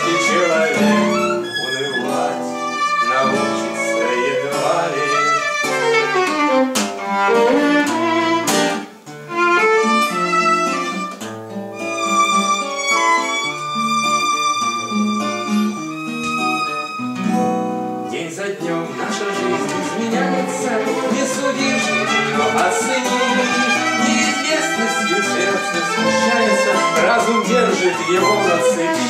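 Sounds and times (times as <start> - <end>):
bowed violin melody: 0.0 - 29.0
strummed guitar chords: 0.0 - 29.0.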